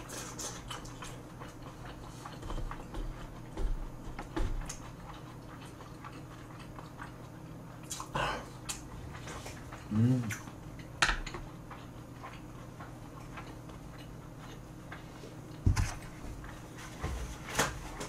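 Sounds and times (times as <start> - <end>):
person chewing: 0.0 - 15.6.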